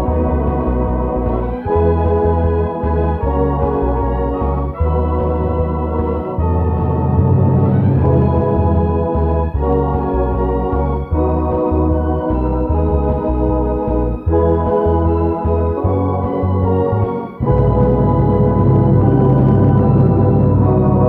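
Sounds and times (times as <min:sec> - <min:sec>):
organ keyboard music: 0:00.0 - 0:21.0.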